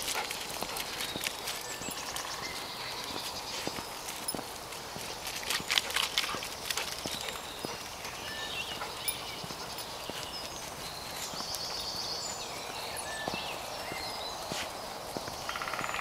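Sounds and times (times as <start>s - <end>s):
birds chirping: 0.0s - 16.0s
footsteps on muddy path: 0.0s - 16.0s.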